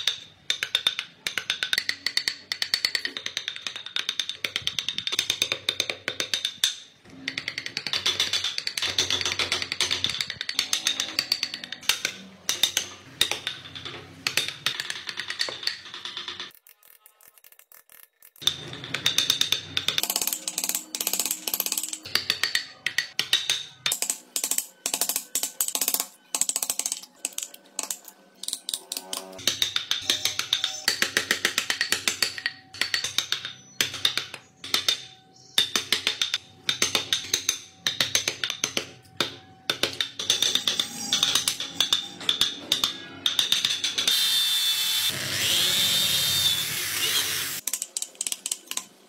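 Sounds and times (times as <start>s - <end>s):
chisels carving wood: 0.0s - 49.0s.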